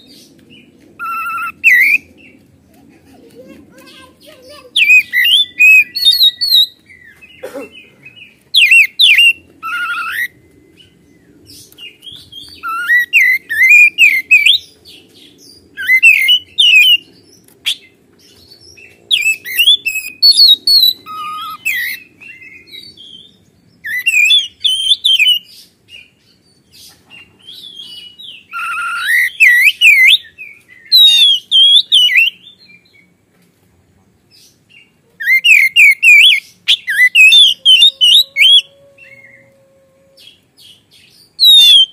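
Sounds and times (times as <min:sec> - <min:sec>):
bird singing warbling phrases: 0:00.0 - 0:33.2, 0:34.3 - 0:39.6, 0:40.2 - 0:41.9.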